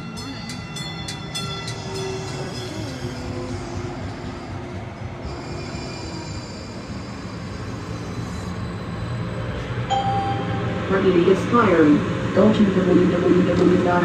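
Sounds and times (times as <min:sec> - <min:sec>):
train rumbling and rattling: 0:00.0 - 0:14.0.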